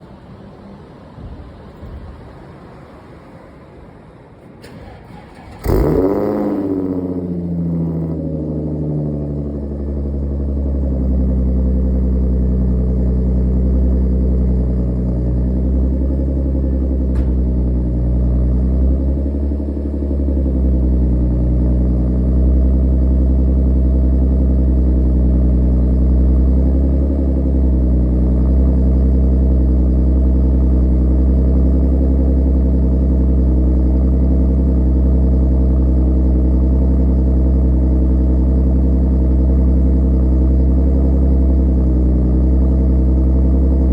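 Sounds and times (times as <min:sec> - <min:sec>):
car engine idling: 0:04.6 - 0:43.9.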